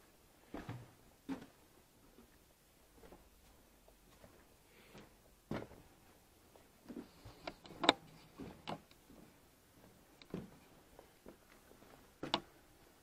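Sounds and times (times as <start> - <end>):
boot footsteps: 0.4 - 13.0.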